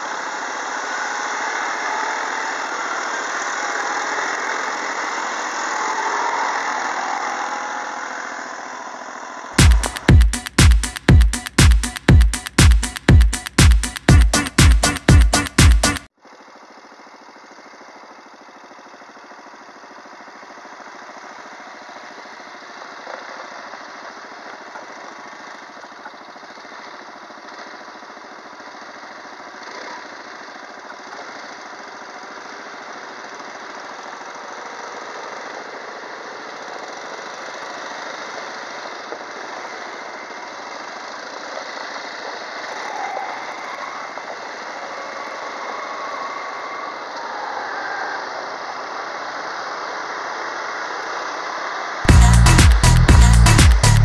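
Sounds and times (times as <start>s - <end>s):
quad bike engines running: 0.0s - 10.2s, 16.2s - 54.0s.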